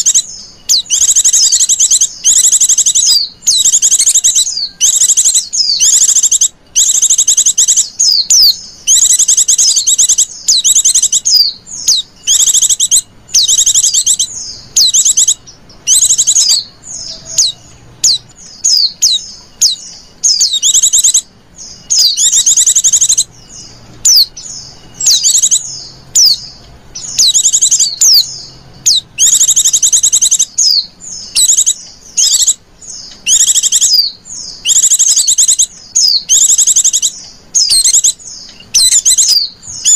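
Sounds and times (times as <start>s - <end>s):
bird high-pitched trills: 0.0s - 39.9s
sweeping bird chirps: 0.0s - 39.9s.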